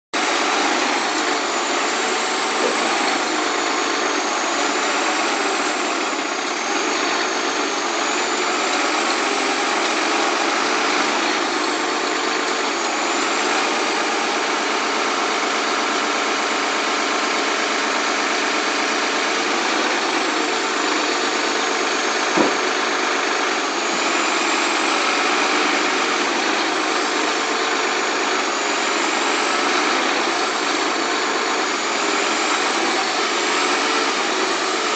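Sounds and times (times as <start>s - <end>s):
diesel engine running steadily: 0.2s - 34.9s.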